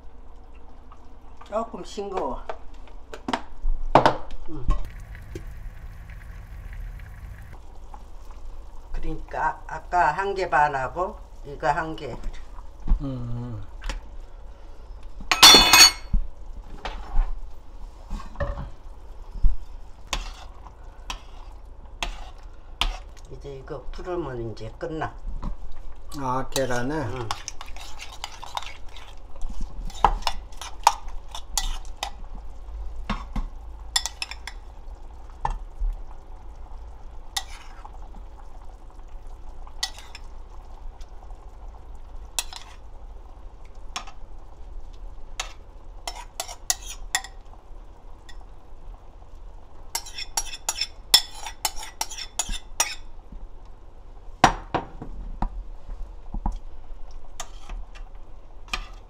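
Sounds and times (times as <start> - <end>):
soup boiling in pot: 4.5 - 15.4, 16.2 - 54.4.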